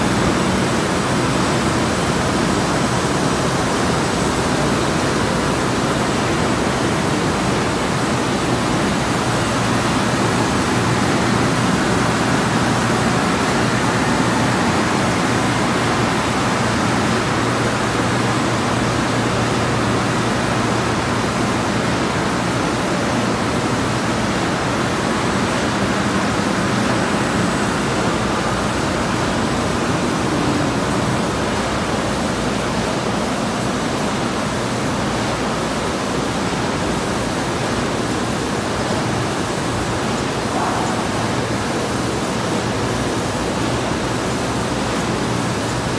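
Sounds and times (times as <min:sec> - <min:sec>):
printing press running: 0:00.0 - 0:45.9.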